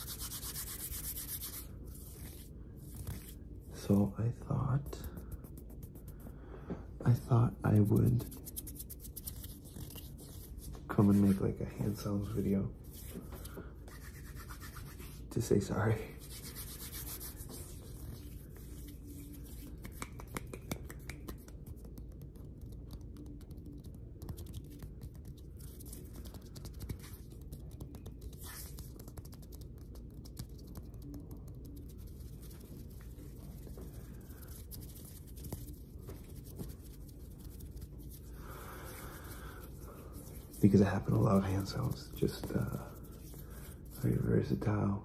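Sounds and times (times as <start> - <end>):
hands rubbing together: 0.0 - 4.0, 4.8 - 6.3, 7.7 - 15.3, 16.1 - 44.3.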